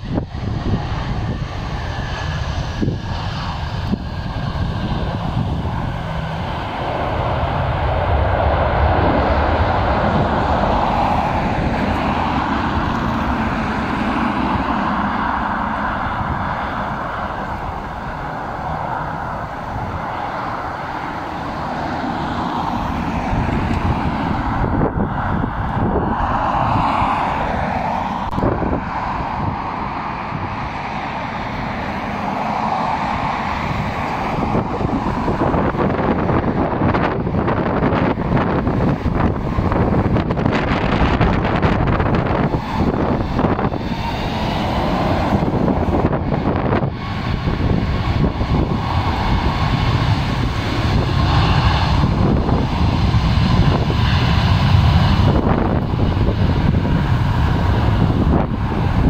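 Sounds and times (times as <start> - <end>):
jet engines rushing: 0.0 - 59.0.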